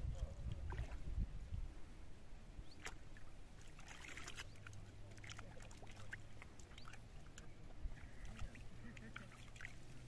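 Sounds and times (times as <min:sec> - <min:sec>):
water splashing and sloshing: 0:00.0 - 0:01.4, 0:02.5 - 0:10.0.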